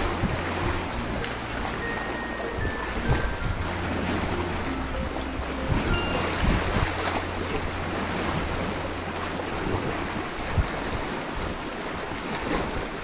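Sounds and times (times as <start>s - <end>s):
waves splashing on rocks: 0.0s - 13.0s
wind rumble on microphone: 0.0s - 13.0s.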